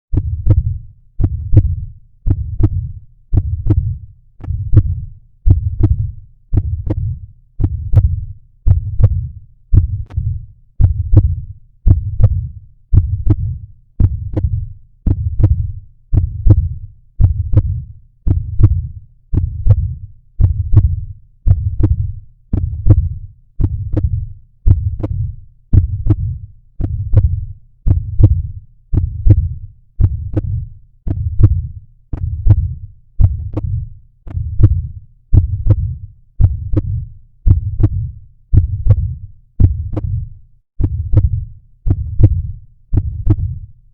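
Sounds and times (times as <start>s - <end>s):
heartbeat thumps: 0.1s - 43.8s.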